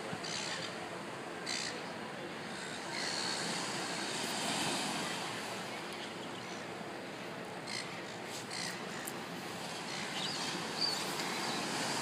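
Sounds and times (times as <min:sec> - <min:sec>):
small waves washing onto sand: 0:00.0 - 0:12.0.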